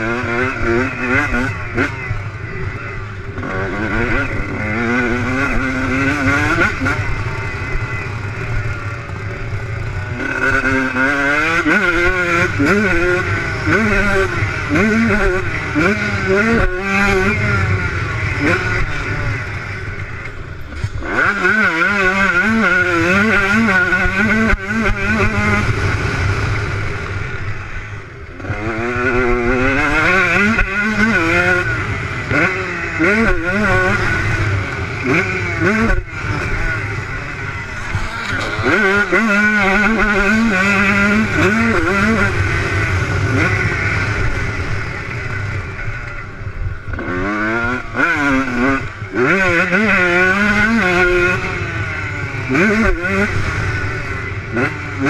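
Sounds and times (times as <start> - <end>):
motorbike engines revving: 0.0 - 55.0.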